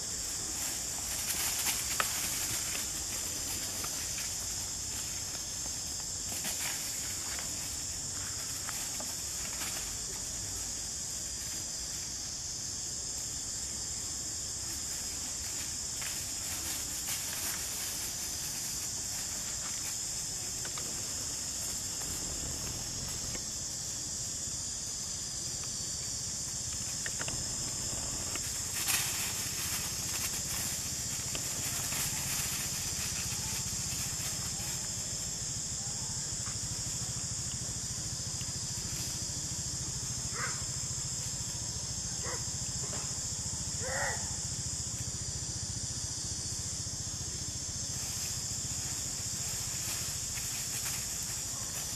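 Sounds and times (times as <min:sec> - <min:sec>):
high-pitched insect drone: 0:00.0 - 0:51.9.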